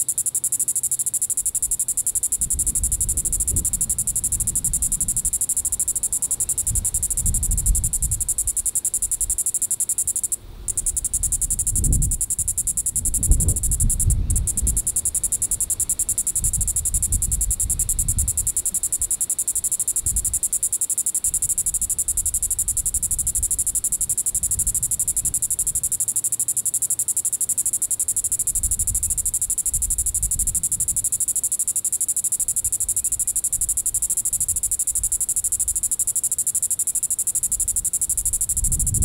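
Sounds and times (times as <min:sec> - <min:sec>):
cicada buzzing: 0:00.0 - 0:39.0.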